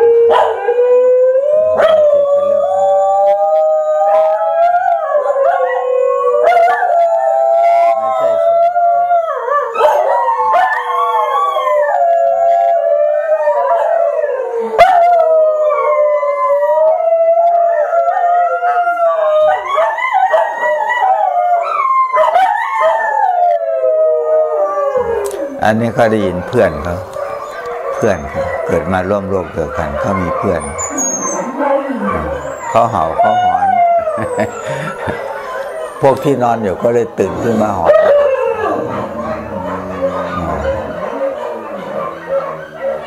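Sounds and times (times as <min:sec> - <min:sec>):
dogs howling: 0:00.0 - 0:43.0.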